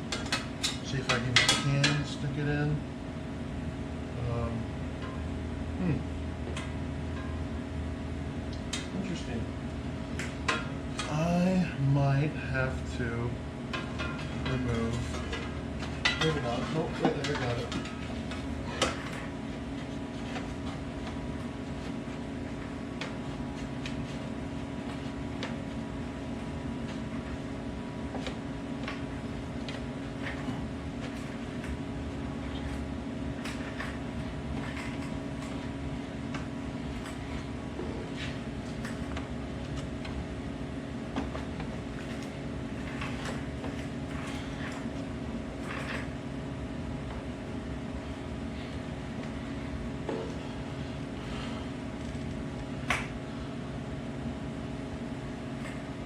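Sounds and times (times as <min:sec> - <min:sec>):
machine hum with steady tones: 0:00.0 - 0:56.0.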